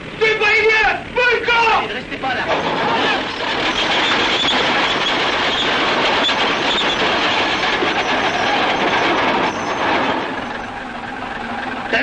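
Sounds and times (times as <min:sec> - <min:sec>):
crawler tractor tracks clanking: 0:01.9 - 0:12.0.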